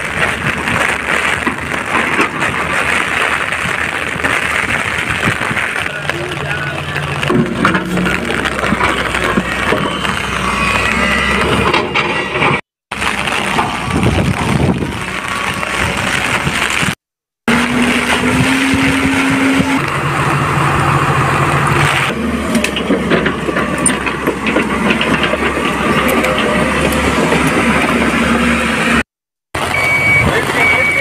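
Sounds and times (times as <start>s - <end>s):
diesel engines running under load: 0.0s - 16.9s, 17.5s - 31.0s.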